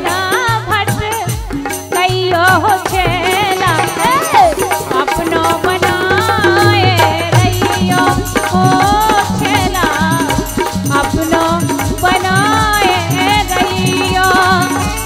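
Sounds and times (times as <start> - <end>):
rattling percussion: 0.0 - 15.0
rhythmic drum beat: 0.0 - 15.0.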